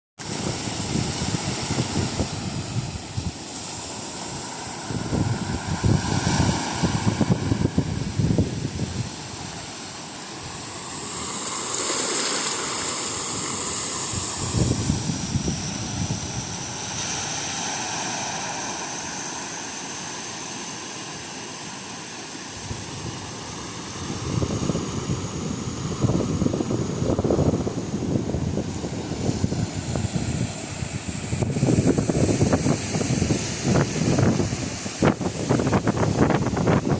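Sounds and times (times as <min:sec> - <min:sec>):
wind buffeting microphone: 0:00.2 - 0:10.9, 0:12.7 - 0:17.7, 0:22.6 - 0:36.9
sea waves washing onto beach: 0:00.2 - 0:36.9.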